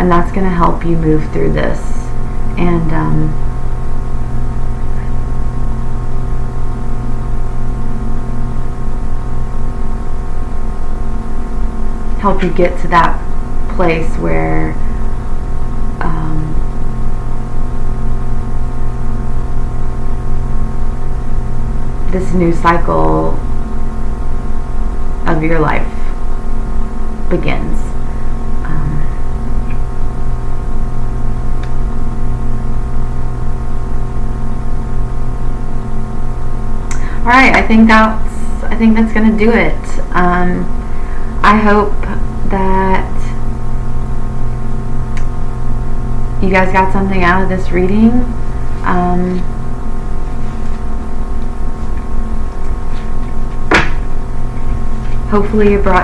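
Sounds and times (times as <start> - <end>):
low rumble and hiss: 0.0 - 56.0
steady hum of held tones: 0.0 - 56.0.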